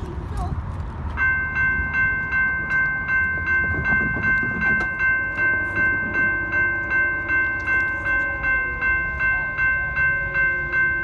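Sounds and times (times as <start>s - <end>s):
train rumbling: 0.0s - 11.0s
bell ringing quickly: 1.2s - 11.0s.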